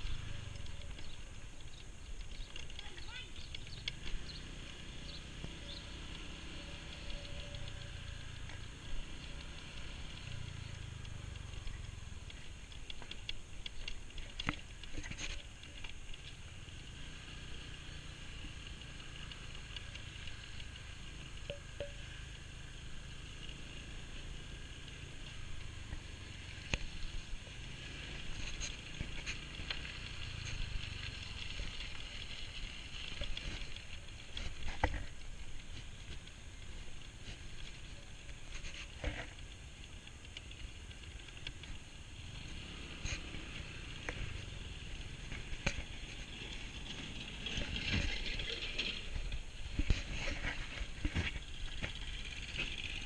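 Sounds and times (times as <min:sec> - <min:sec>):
scooter engine and road rumble: 0:00.0 - 0:53.0.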